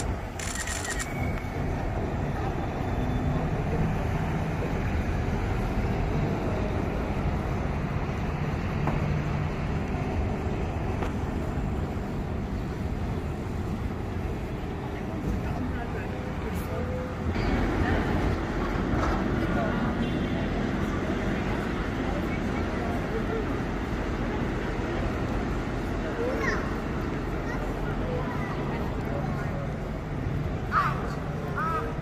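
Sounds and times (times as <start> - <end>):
vehicle rumble: 0.0 - 32.0.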